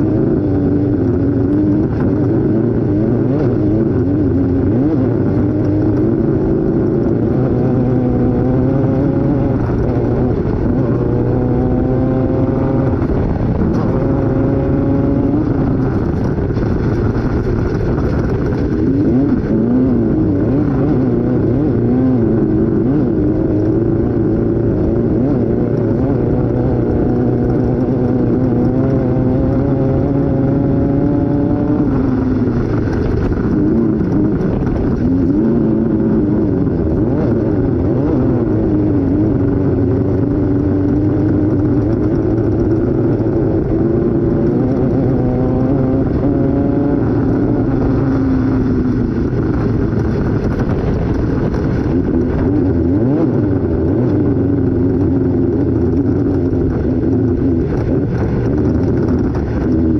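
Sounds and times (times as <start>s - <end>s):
driving noise: 0.0s - 59.9s
race engine revving: 0.0s - 59.9s.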